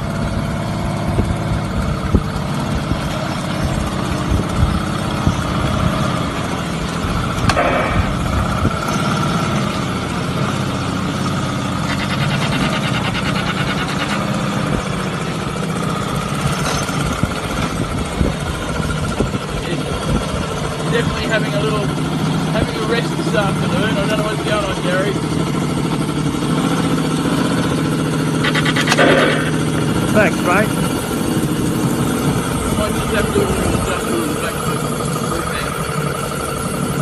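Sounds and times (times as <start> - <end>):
model engine low rumble: 0.0 - 37.0.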